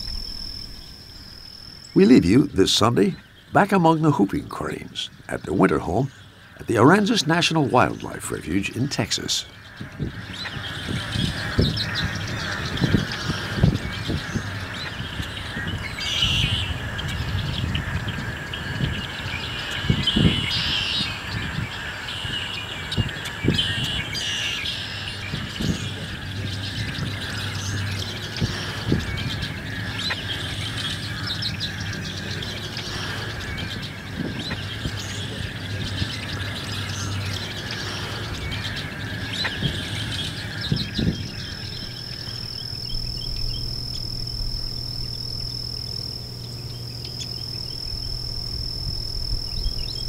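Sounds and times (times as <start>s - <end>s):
birds chirping and squawking: 0.0s - 50.0s
high background hum: 0.0s - 50.0s.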